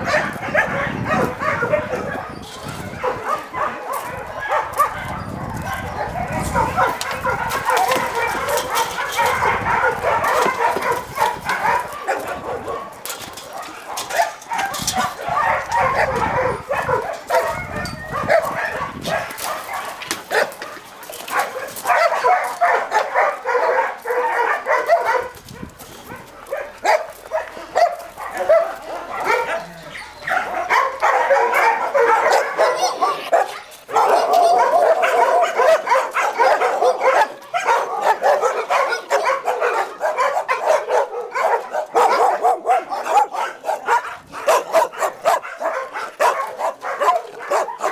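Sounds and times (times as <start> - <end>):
dogs barking: 0.0 - 47.9.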